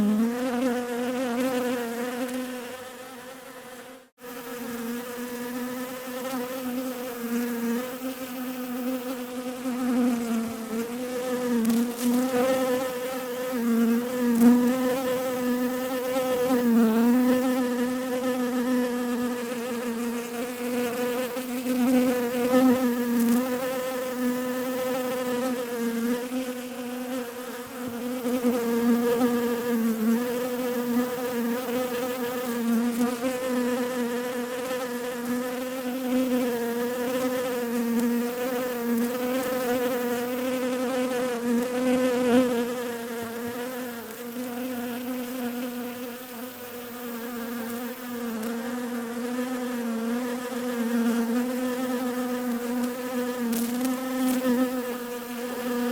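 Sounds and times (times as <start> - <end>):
bee buzzing: 0.0 - 55.9.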